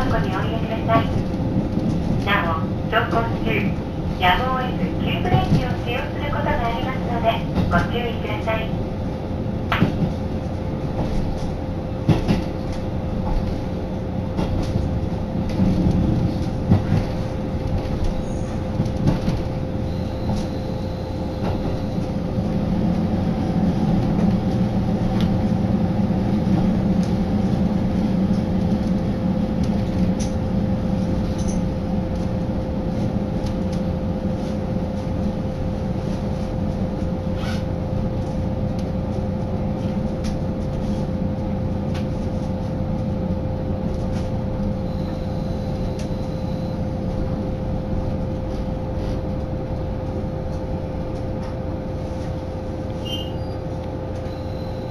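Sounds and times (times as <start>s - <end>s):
constant hum: 0.0s - 54.9s
train running rumble: 0.0s - 54.9s.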